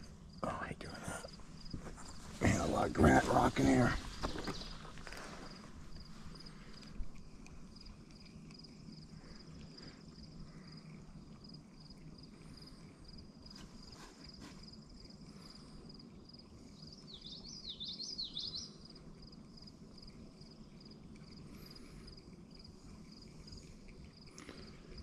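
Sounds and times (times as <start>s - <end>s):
songbird chirping: 0.0s - 12.8s, 13.5s - 25.0s
low background hum: 0.0s - 25.0s.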